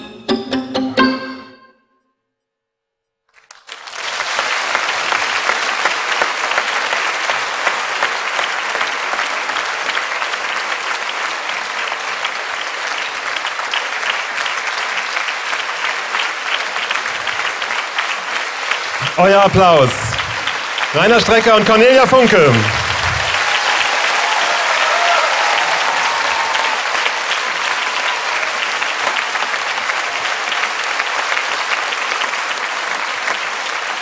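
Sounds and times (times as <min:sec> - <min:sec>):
audience applauding: 0:03.3 - 0:34.0.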